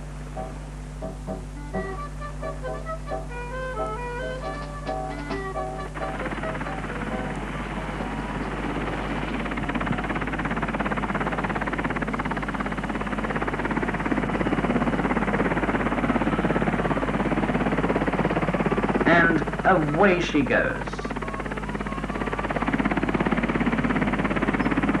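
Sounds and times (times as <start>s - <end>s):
helicopter rotor chopping: 0.0s - 25.0s.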